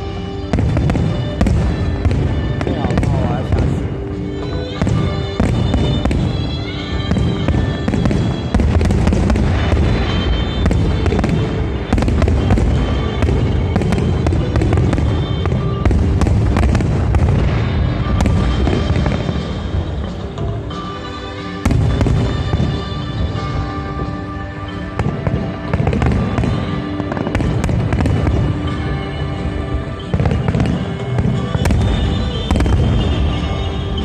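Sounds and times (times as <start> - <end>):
firework bursts and crackling: 0.0 - 34.0
music playing: 0.0 - 34.0.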